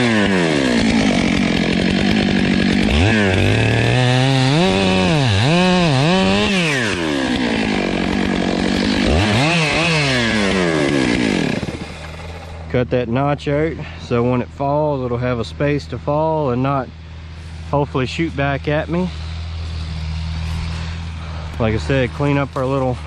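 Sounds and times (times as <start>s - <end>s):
chainsaw cutting tree trunk: 0.0s - 23.0s.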